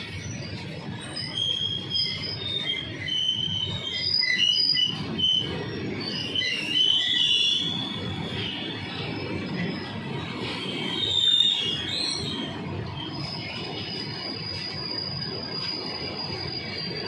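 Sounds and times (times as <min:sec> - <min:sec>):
high-pitched wheel squeals: 0:00.0 - 0:17.0
train wheels rumbling on rails: 0:00.0 - 0:17.0.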